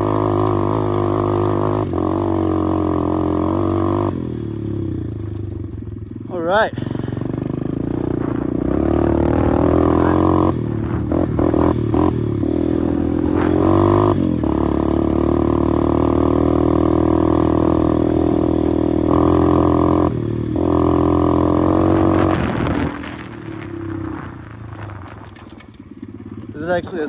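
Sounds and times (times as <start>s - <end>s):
pit bike engine under throttle: 0.0s - 27.0s.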